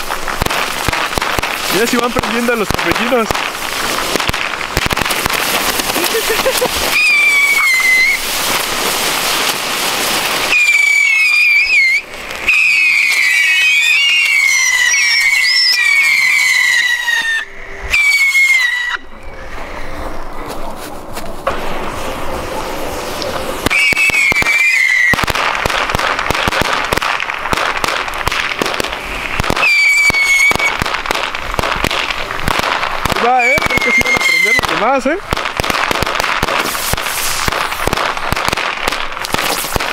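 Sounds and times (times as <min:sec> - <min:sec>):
crackling hiss of fireworks: 0:00.0 - 0:39.9
whistling fireworks: 0:00.0 - 0:39.9.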